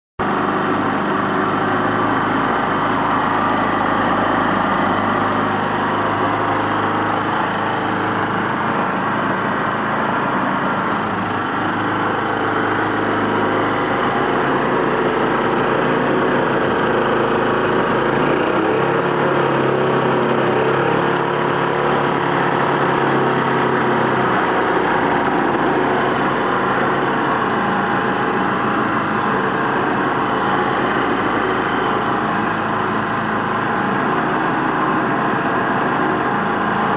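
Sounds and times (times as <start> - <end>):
lawn mower engine running: 0.2 - 36.9.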